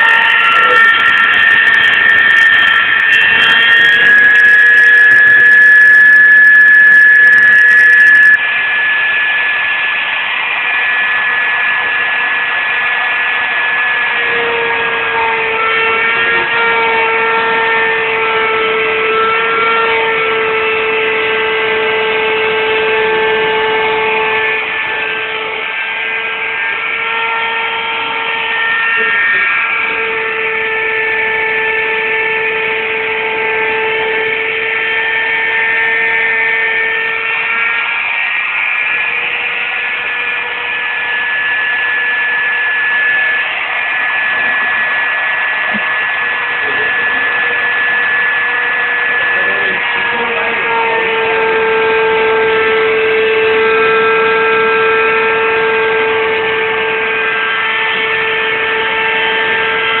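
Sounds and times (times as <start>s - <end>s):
router machine whine: 0.0s - 60.0s.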